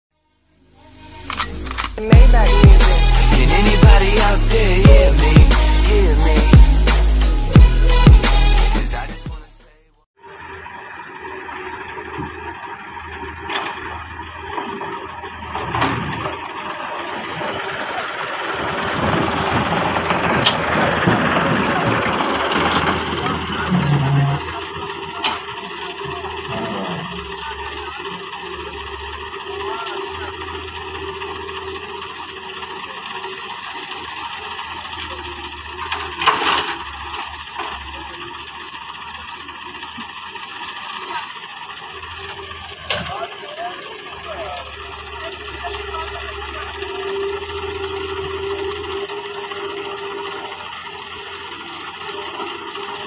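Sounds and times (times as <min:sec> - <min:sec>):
diesel engines running: 0:00.3 - 0:53.0
excavator clanks: 0:10.4 - 0:53.0.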